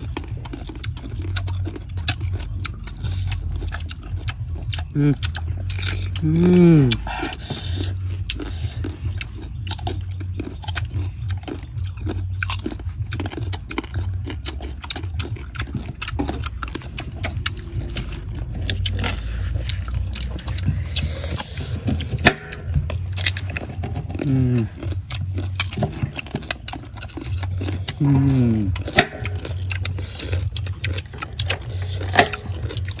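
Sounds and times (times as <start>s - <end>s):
crunchy fruit chewing: 0.0s - 33.0s
steady low hum: 0.0s - 33.0s.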